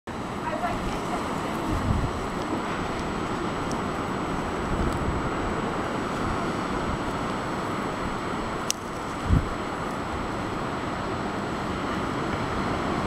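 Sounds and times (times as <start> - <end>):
sea surf breaking: 0.1 - 13.0
wind buffeting microphone: 0.1 - 13.0.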